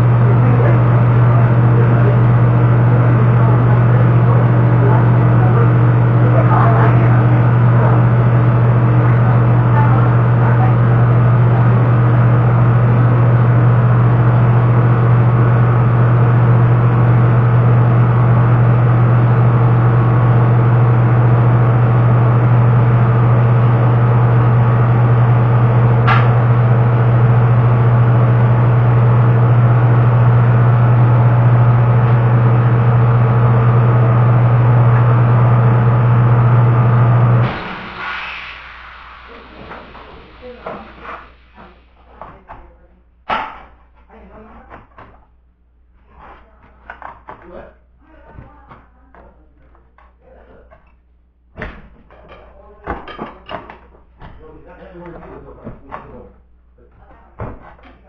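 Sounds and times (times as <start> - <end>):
machine drone with low hum: 0.0 - 58.0.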